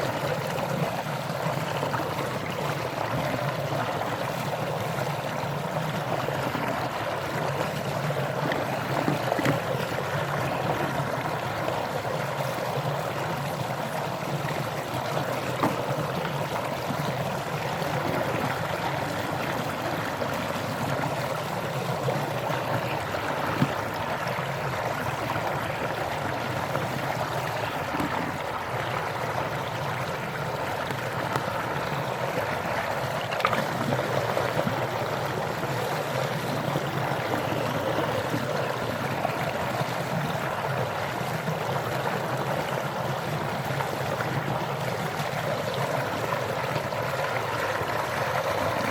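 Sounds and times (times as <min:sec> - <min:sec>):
flowing water: 0:00.0 - 0:48.9.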